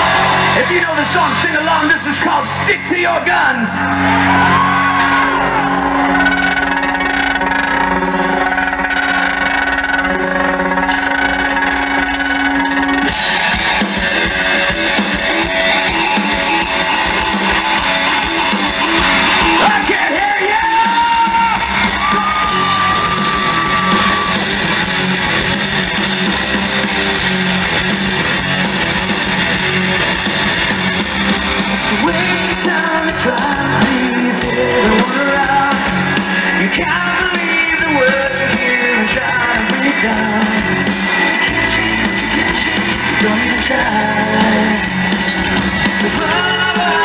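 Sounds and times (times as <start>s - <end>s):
hard rock band playing live: 0.0s - 47.0s.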